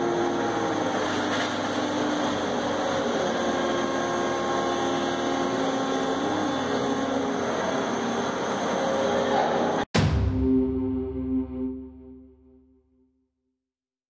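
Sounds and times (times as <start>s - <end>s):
hydraulic system whine: 0.0s - 12.3s.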